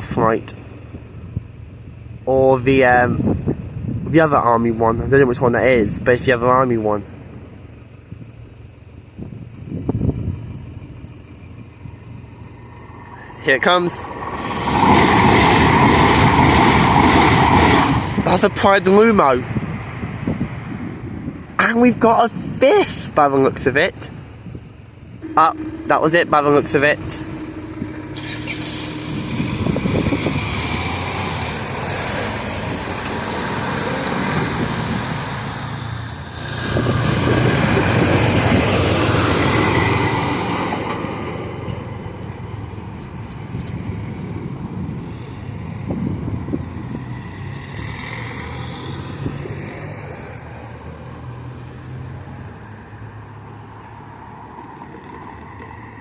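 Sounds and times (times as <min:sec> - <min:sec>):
road vehicles driving past: 0:00.0 - 0:22.0, 0:23.2 - 0:56.0.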